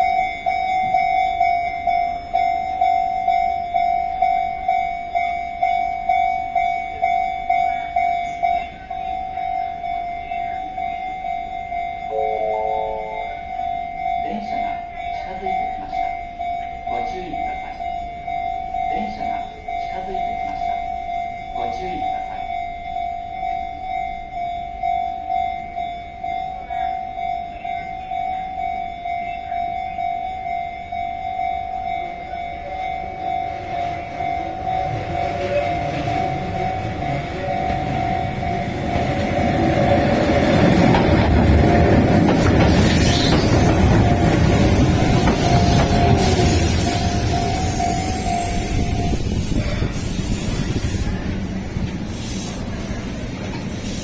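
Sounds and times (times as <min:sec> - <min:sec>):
level crossing warning bell: 0:00.0 - 0:42.7, 0:43.4 - 0:51.9.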